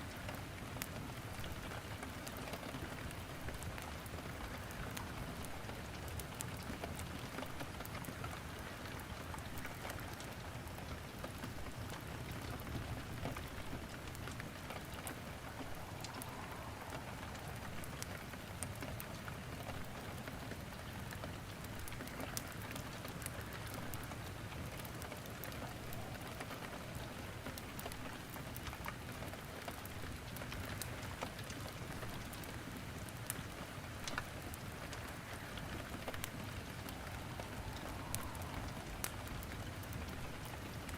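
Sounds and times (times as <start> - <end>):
firewood crackling in fireplace: 0.0 - 40.9
steady rain: 0.0 - 40.9.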